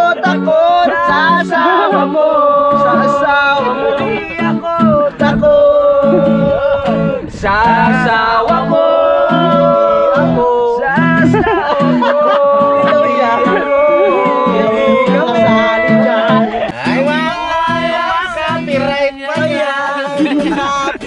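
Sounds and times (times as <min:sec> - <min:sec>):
man singing: 0:00.0 - 0:21.0
strummed acoustic guitar: 0:00.0 - 0:21.0.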